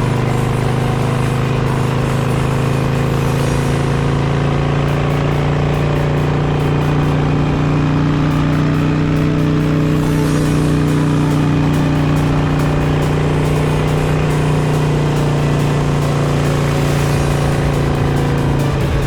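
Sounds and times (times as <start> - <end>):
motorcycle engine running: 0.0 - 19.0
music: 0.0 - 19.0.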